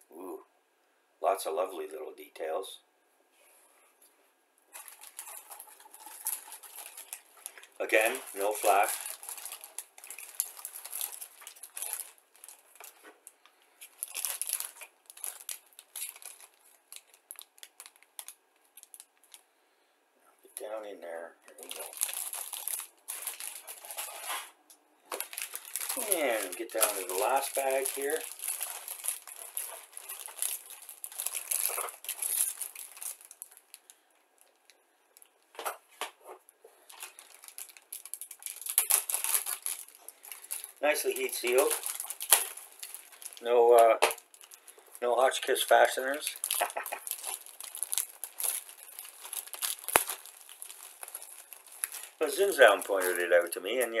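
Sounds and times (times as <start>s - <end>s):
plastic bags crinkling: 4.7s - 19.4s, 21.5s - 35.9s, 36.7s - 54.0s.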